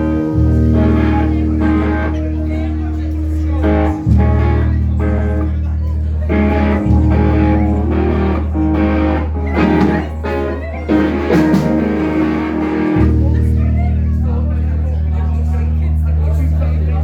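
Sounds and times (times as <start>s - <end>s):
electric guitar playing: 0.0s - 16.0s
held bass notes: 0.0s - 17.0s.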